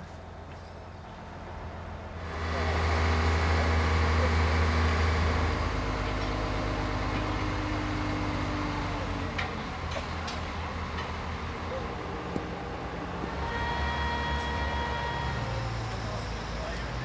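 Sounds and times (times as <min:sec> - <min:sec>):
diesel engine revving: 0:02.2 - 0:17.0.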